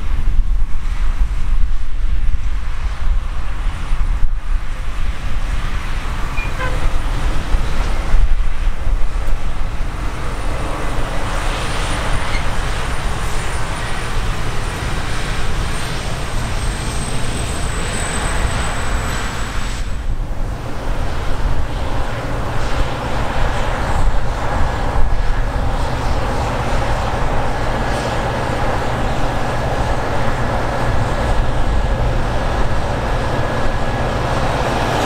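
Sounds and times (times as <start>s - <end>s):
low engine drone: 0.0s - 35.0s
machinery noise: 5.8s - 35.0s.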